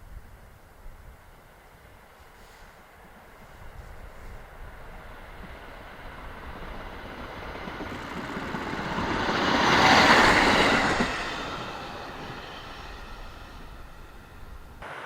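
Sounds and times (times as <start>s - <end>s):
diesel railcar approaching: 0.6s - 15.0s.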